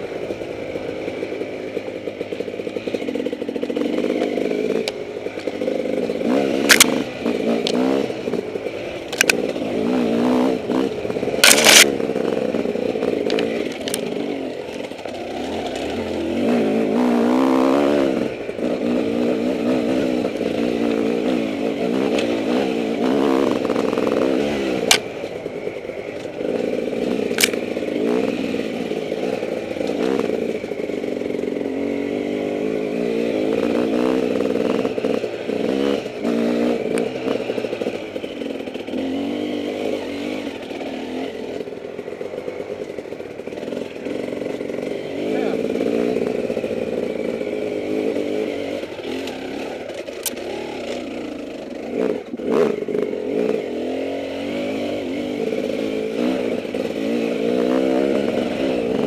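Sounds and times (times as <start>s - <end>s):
dirt bike engine revving: 0.0s - 59.0s
bike rattling: 0.1s - 16.9s, 18.1s - 58.8s.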